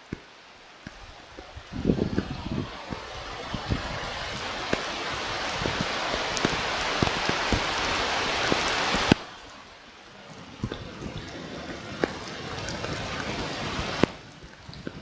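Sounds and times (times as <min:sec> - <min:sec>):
rain hiss on microphone: 0:00.0 - 0:15.0
raindrop ticks: 0:00.0 - 0:15.0.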